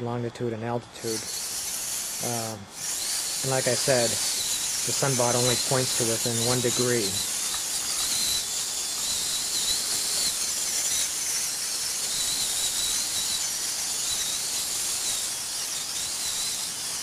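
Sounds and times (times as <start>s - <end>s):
faint wavering whines: 0.0s - 17.0s
high-pitched hiss: 1.0s - 17.0s.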